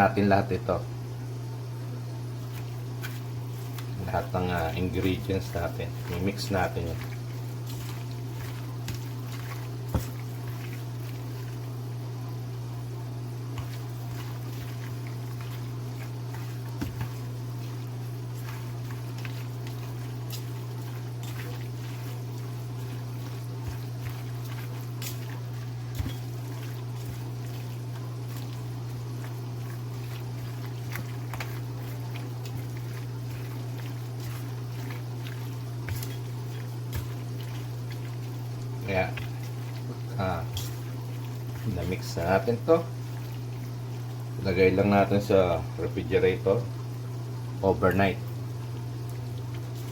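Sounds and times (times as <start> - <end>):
steady low hum: 0.0 - 49.9
wet squishing of hand mixing: 0.0 - 49.9.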